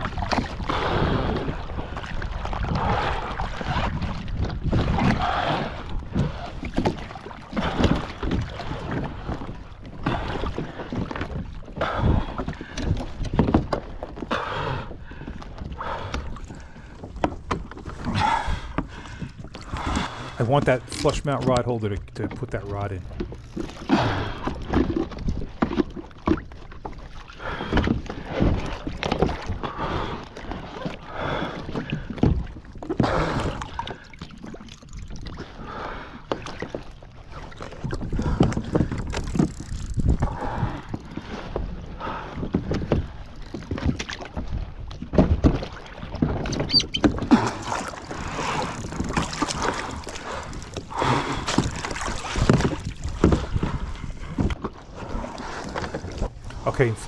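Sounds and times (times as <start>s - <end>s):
water splashing and sloshing: 0.0s - 57.0s.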